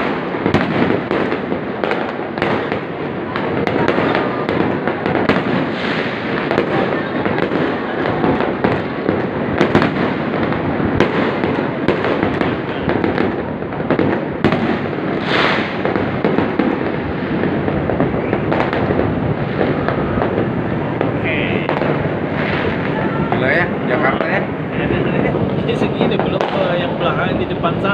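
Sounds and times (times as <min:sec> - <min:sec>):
fireworks crackling and banging: 0:00.0 - 0:27.9
loud firework burst: 0:00.0 - 0:27.9.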